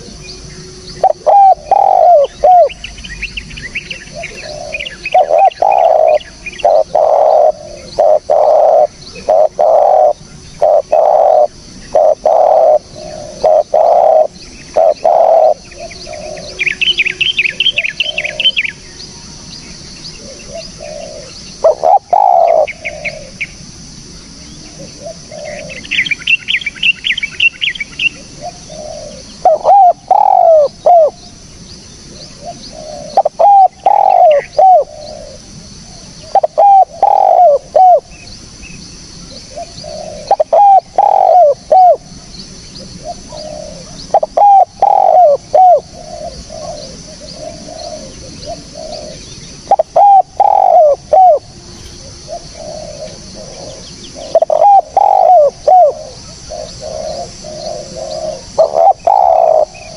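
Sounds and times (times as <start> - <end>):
dove cooing: 0.0 - 3.0, 3.7 - 18.9, 20.0 - 23.6, 24.5 - 31.3, 32.1 - 38.3, 39.2 - 59.9
steady high hiss: 0.0 - 59.9.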